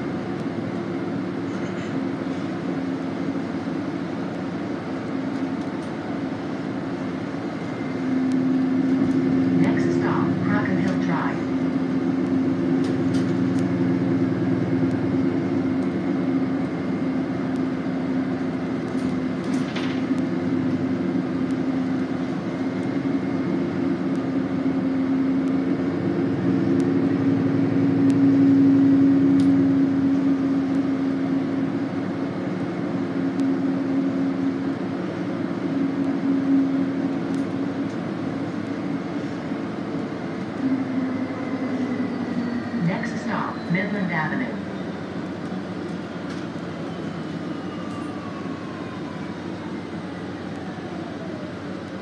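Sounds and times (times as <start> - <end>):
bus drivetrain hum: 0.0 - 52.0
road noise: 0.0 - 52.0.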